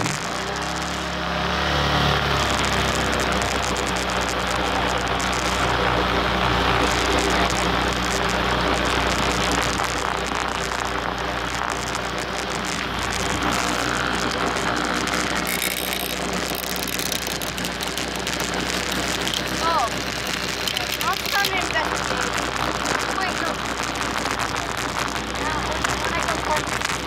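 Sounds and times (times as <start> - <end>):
four-wheeler engine running: 0.0 - 27.0.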